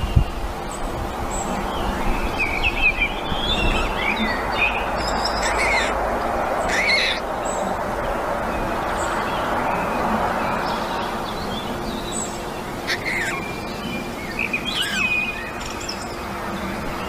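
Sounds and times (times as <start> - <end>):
birds chirping: 0.0 - 17.0
steady background hiss: 0.0 - 17.0.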